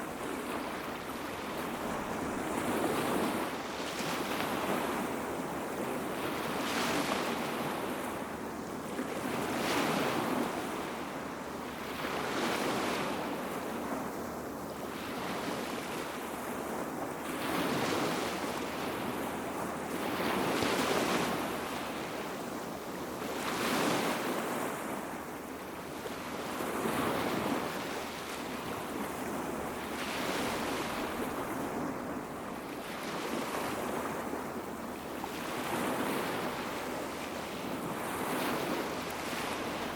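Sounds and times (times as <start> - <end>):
small waves washing on beach: 0.0 - 39.9.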